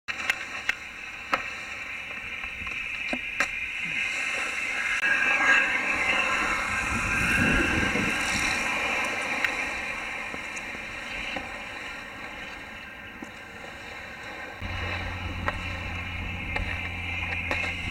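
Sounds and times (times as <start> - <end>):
wakeboard spray rushing: 0.1 - 17.9.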